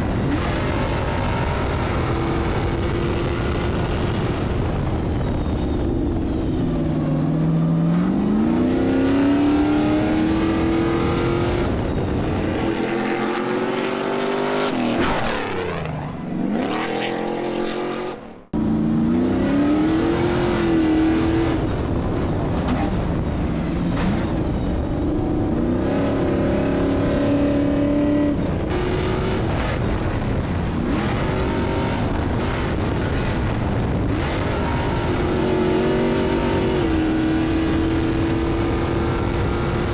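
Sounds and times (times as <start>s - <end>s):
truck engine accelerating and shifting: 0.0s - 39.9s.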